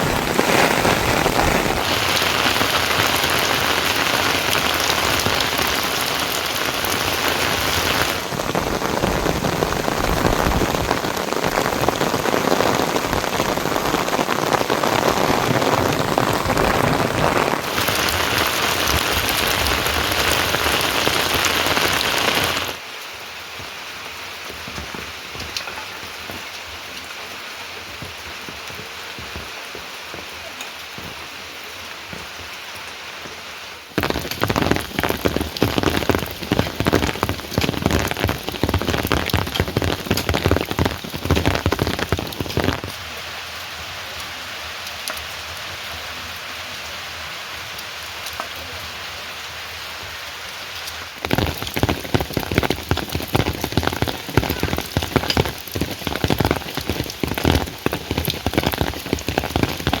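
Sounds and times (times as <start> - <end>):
heavy rain spattering: 0.0 - 60.0.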